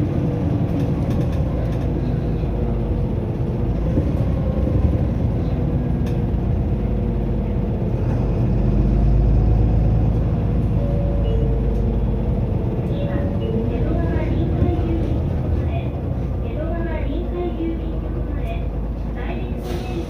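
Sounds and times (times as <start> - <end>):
bus diesel engine and road rumble: 0.0 - 20.0.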